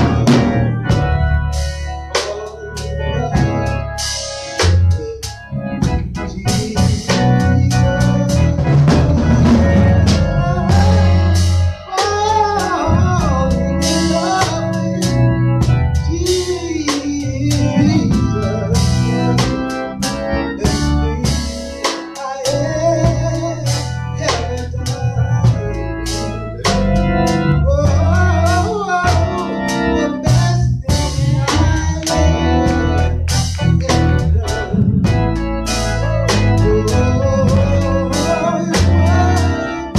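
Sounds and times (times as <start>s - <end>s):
drum kit: 0.0s - 39.9s
organ: 0.0s - 39.9s
person singing: 2.1s - 3.8s, 4.6s - 25.8s, 26.5s - 39.9s.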